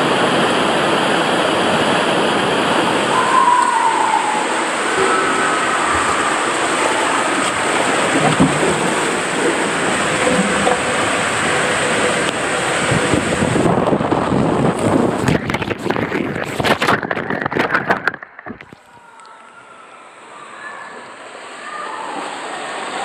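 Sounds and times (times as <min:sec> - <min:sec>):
rushing water in a slide: 0:00.0 - 0:23.0.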